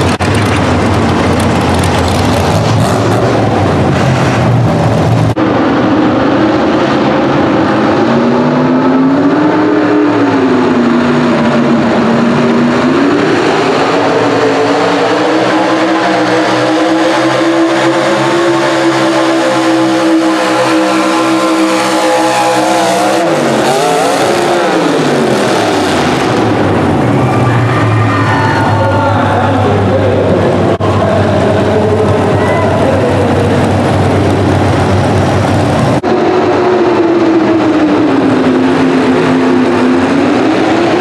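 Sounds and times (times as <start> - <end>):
truck engine at full throttle: 0.0 - 41.0.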